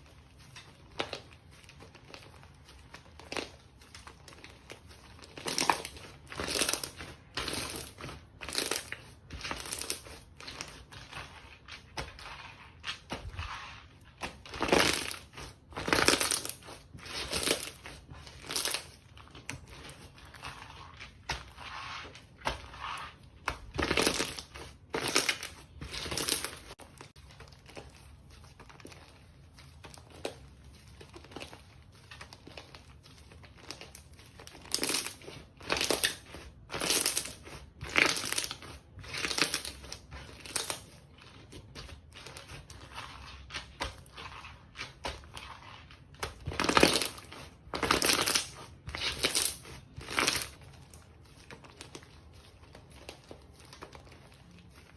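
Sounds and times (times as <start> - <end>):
slime squishing and popping: 0.5 - 28.1, 31.1 - 54.6.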